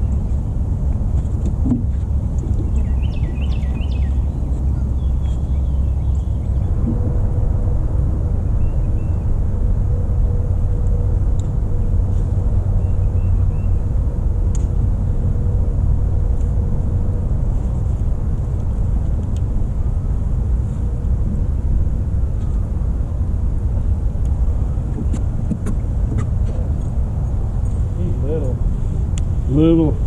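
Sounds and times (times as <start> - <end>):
faint hum: 0.0 - 30.0
wind buffeting microphone: 0.0 - 30.0.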